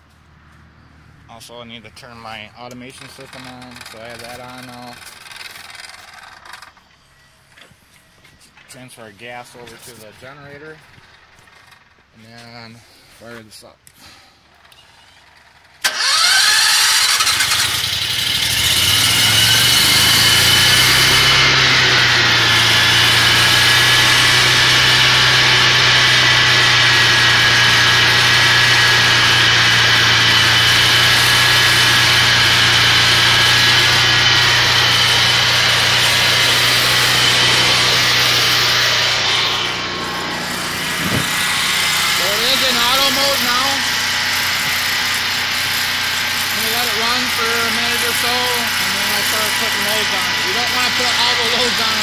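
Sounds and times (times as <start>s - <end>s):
generator engine starting and running: 0.0s - 13.2s, 13.9s - 52.0s.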